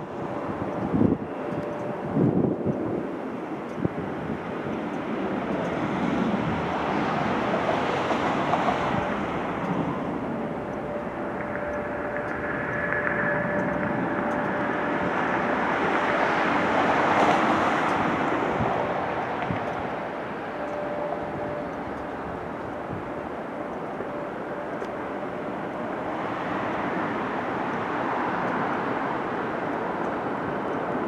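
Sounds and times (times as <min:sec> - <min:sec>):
distant jet engines at takeoff: 0:00.0 - 0:31.0.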